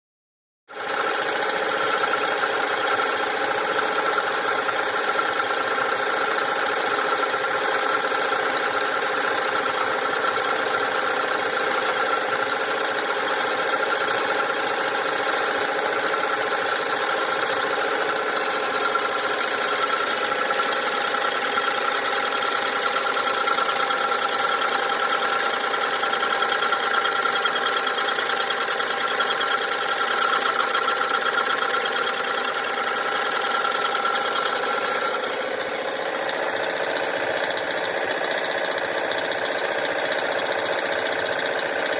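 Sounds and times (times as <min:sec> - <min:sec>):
wood lathe motor whining: 0:01.1 - 0:41.9.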